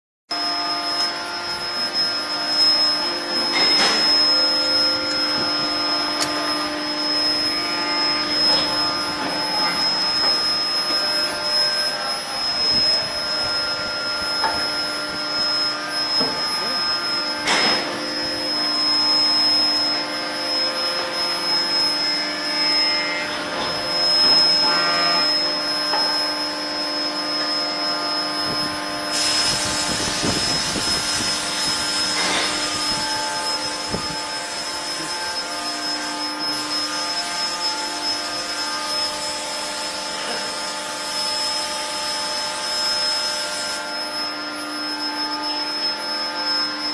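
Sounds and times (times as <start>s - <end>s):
high-pitched whine: 0.3s - 46.9s.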